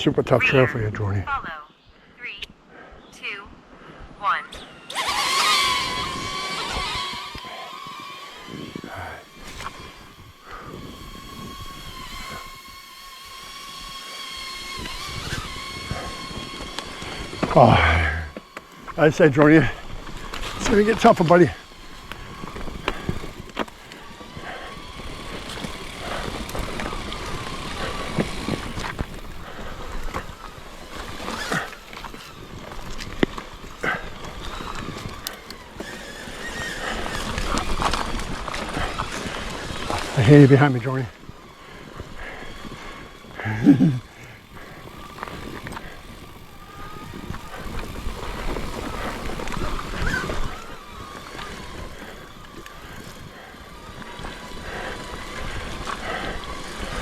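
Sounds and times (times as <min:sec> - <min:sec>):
drone propellers whining: 0:03.2 - 0:57.0
bike tyres rolling on trail: 0:04.7 - 0:57.0
bike knocking and rattling: 0:04.9 - 0:57.0.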